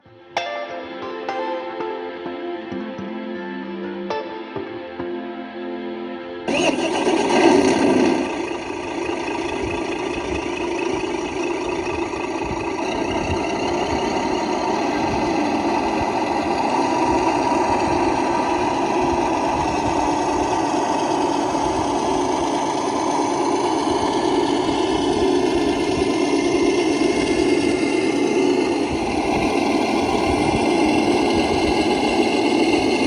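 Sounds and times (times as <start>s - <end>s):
toy car motor whirring and rattling: 6.5s - 33.0s.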